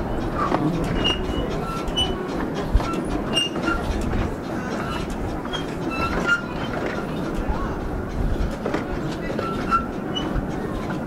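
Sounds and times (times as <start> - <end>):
rail joint clicks: 0.0 - 11.0
train wheels rumbling on rails: 0.0 - 11.0
wheels squeaking: 0.0 - 11.0.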